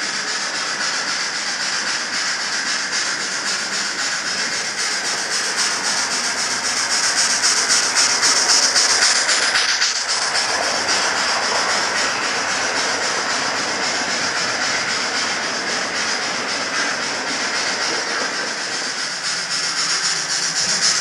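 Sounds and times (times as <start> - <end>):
model steam locomotive chuffing: 0.0 - 21.0
wheels running on rails: 0.0 - 21.0.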